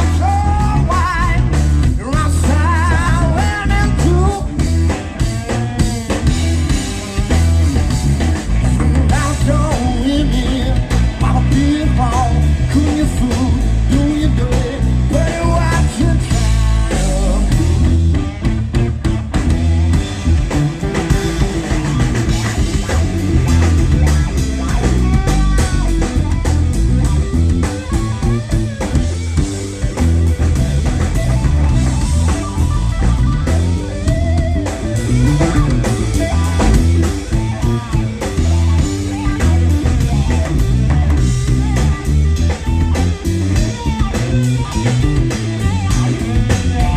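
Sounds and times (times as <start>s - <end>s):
bass guitar: 0.0s - 46.9s
drum kit beat: 0.0s - 46.9s
electric guitar: 0.0s - 46.9s.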